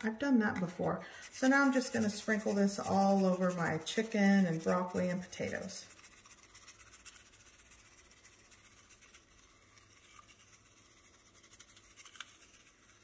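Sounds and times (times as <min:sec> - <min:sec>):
seasoning shaken from a packet: 0:00.6 - 0:13.0.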